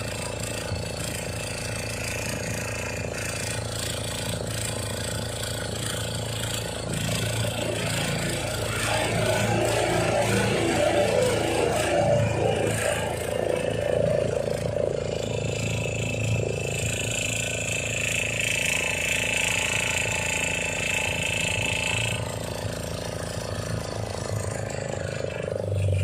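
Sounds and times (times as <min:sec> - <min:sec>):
motorboat engine running: 0:00.0 - 0:26.0
thin high whine: 0:00.0 - 0:26.0.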